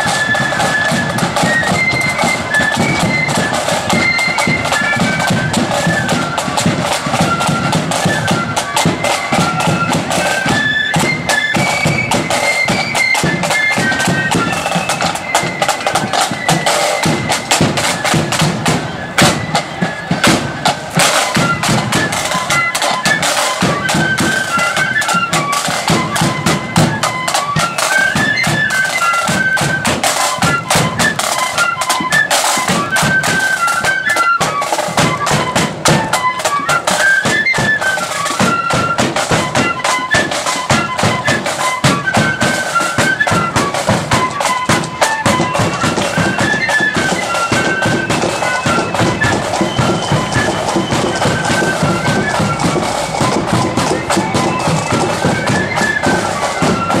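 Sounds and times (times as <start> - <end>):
flutes playing melody: 0.0 - 57.0
side drum beating: 0.0 - 57.0.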